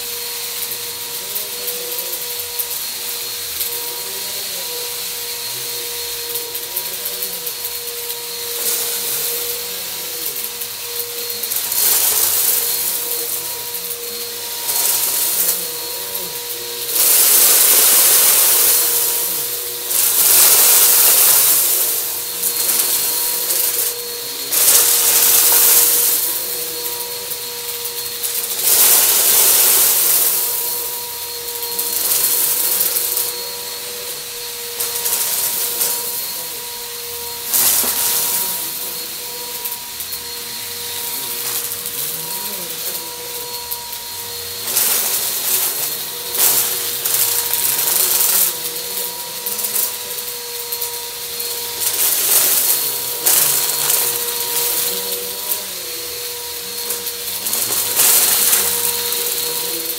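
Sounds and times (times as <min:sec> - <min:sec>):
vacuum motor whine: 0:00.0 - 0:59.9
vacuum sucking up rattling debris: 0:02.1 - 0:59.9.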